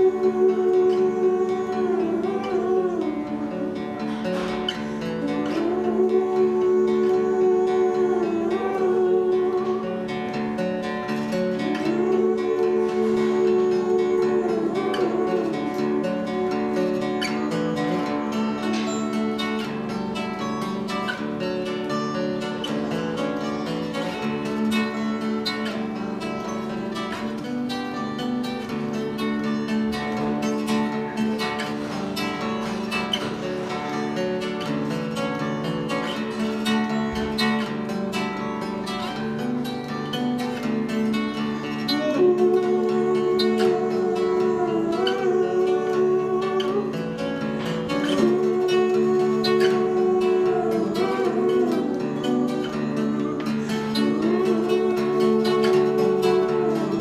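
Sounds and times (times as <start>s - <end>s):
acoustic guitars strummed and picked: 0.0s - 57.0s.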